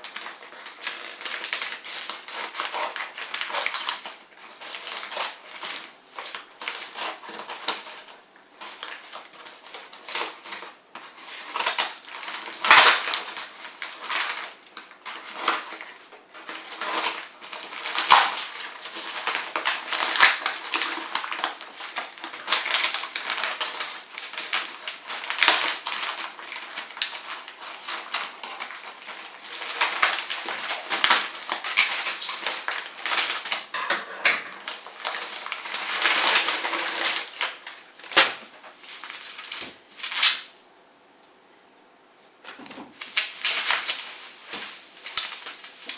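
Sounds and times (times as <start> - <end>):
packaging crinkling and rustling: 0.0 - 40.7, 42.4 - 45.9.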